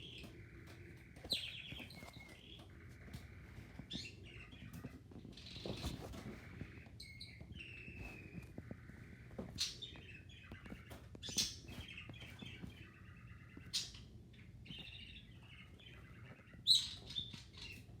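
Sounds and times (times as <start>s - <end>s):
sharp bird calls: 0.0s - 18.0s
small birds chirping: 0.0s - 18.0s.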